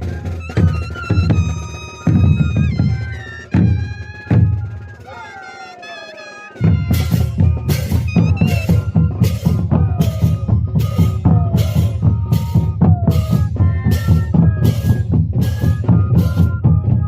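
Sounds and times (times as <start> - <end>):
flutes playing a melody: 0.0 - 17.0
steady drumbeat: 0.0 - 17.0.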